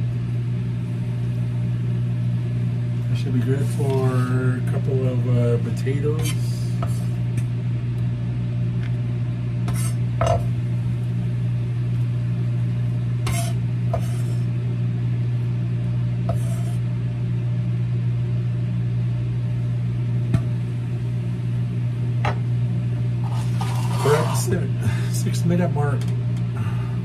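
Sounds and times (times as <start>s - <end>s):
microwave oven humming: 0.0s - 27.0s.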